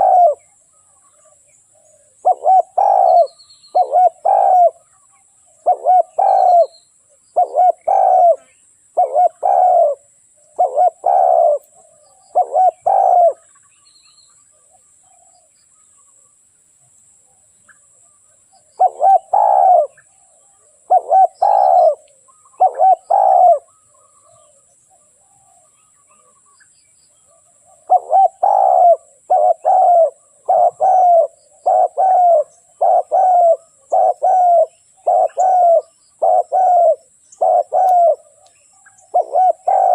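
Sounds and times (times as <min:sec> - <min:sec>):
dove cooing: 0:00.0 - 0:13.6, 0:18.6 - 0:26.4, 0:27.2 - 0:38.4, 0:39.0 - 0:39.9.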